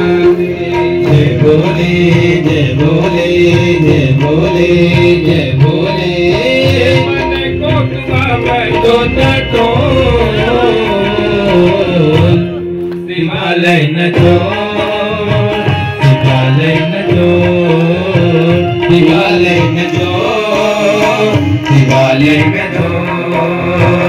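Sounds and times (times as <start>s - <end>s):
hand drum beating rhythm: 0.0s - 12.5s, 13.7s - 24.0s
person singing devotional song: 0.0s - 24.0s.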